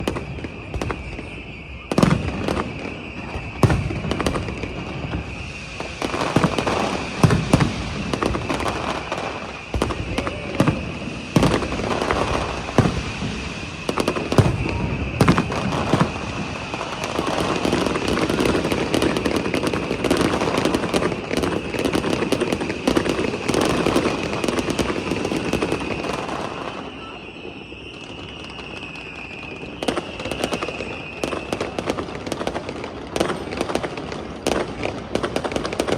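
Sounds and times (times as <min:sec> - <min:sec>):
fireworks bangs and crackle: 0:00.0 - 0:35.9.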